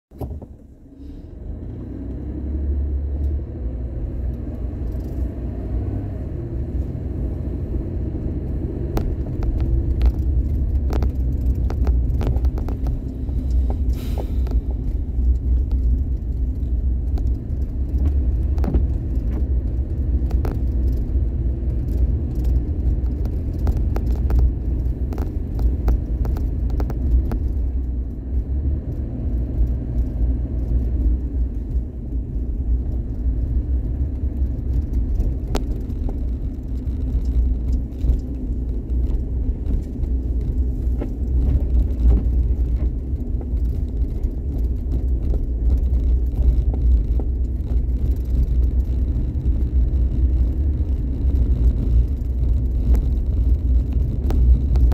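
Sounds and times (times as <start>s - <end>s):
car driving rumble: 0.1s - 54.9s
clicks and crackles: 8.4s - 54.9s.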